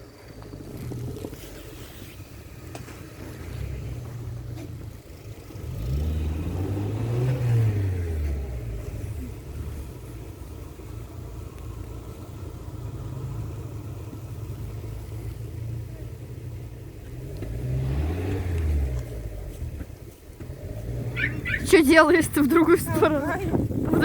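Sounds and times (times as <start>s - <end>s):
car engine passing by: 0.0s - 24.0s.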